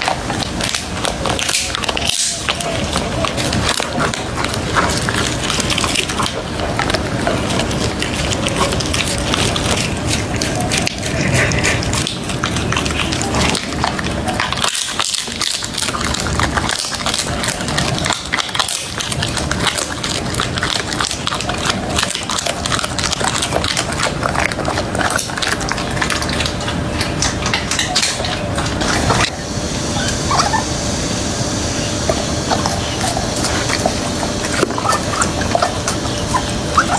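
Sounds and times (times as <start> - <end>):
dog chewing and crunching food: 0.0 - 36.9
dog licking a plate: 0.0 - 36.9.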